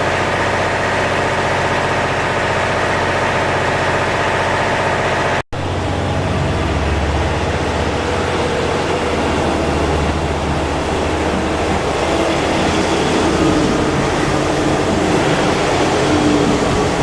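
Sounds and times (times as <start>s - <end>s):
diesel railcar engine running: 0.0s - 17.0s.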